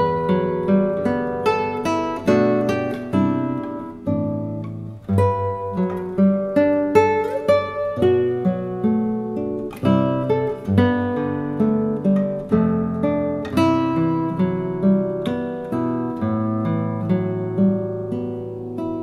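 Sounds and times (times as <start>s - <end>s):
acoustic guitar picking: 0.0s - 19.0s.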